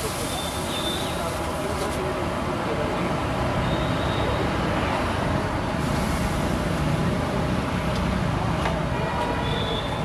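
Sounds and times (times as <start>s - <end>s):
rumbling street noise: 0.0s - 10.0s.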